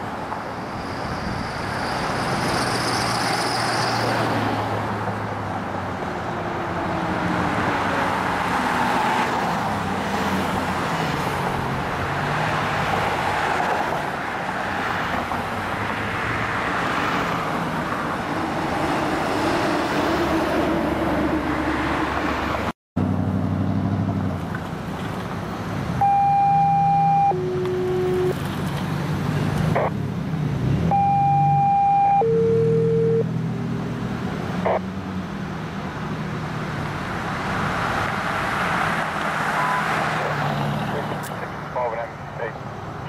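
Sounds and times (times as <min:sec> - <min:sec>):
road traffic: 0:00.0 - 0:43.0.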